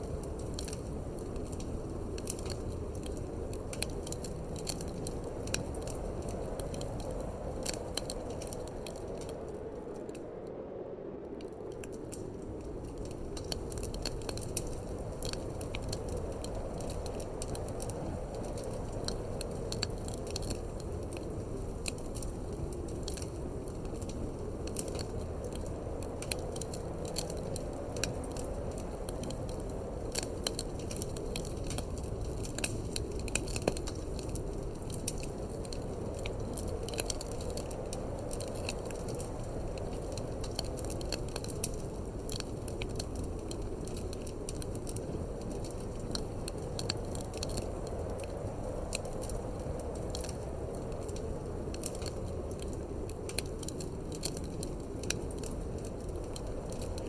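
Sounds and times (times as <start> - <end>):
fire pops and snaps: 0.0 - 10.5, 11.3 - 57.0
low rush of wind: 0.0 - 57.0
wood fire crackling: 0.0 - 57.0.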